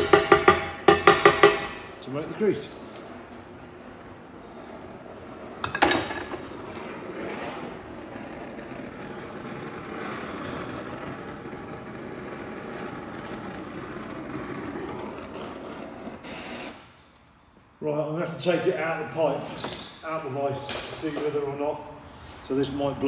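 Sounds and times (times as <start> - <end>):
gas torch flame burning: 0.0 - 23.0.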